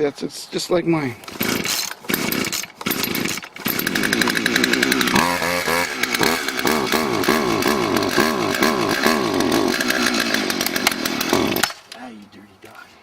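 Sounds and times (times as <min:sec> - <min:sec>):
chainsaw engine surging: 0:01.2 - 0:11.8.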